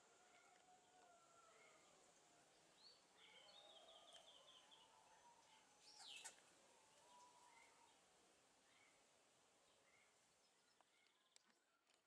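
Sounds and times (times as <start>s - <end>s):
small birds chirping: 1.4s - 12.0s.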